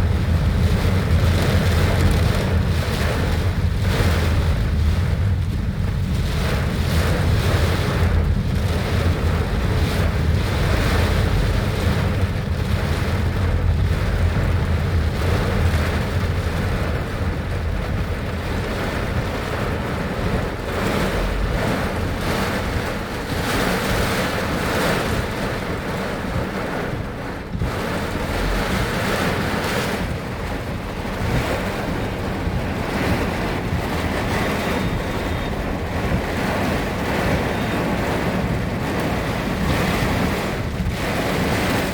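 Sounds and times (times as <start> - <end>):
heavy rain: 0.0 - 41.9
wind buffeting microphone: 0.0 - 41.9.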